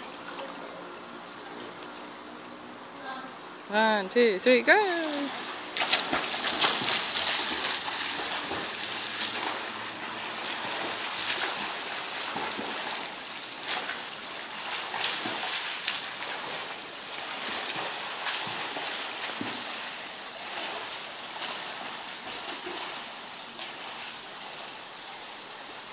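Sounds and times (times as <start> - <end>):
swimmer splashing: 0.0 - 25.3.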